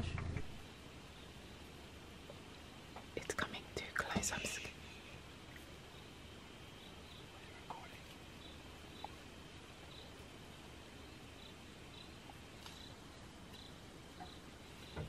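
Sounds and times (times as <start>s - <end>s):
low steady hiss: 0.0s - 15.0s
insect chirping: 0.5s - 15.0s.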